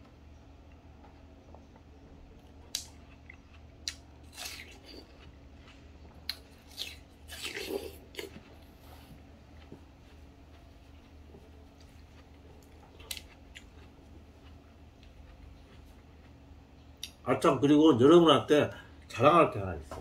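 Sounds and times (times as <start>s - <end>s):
low hum: 0.0s - 20.0s
watermelon being chewed: 0.6s - 17.3s.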